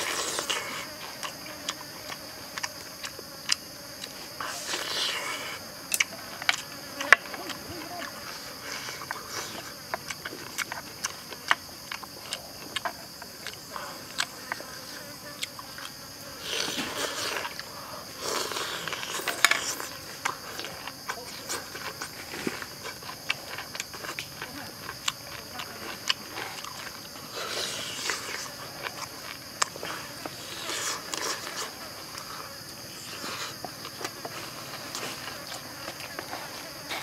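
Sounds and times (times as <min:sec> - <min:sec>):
man chewing with wet smacking: 0:00.0 - 0:05.0, 0:05.8 - 0:37.0
high insect buzz: 0:00.0 - 0:37.0.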